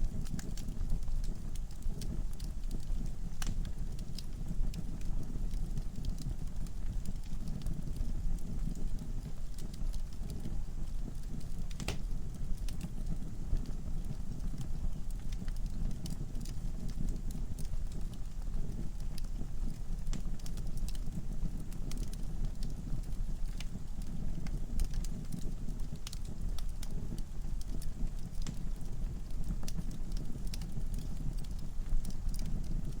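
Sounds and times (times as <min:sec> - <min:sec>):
low rumble of flames: 0:00.0 - 0:33.0
wood fire crackling: 0:00.0 - 0:33.0.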